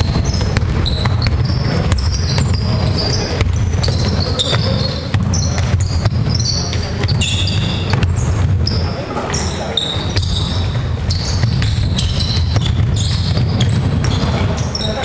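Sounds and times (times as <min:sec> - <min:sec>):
basketball bouncing on wooden floor: 0:00.0 - 0:15.0
sneakers squeaking on court: 0:00.0 - 0:15.0.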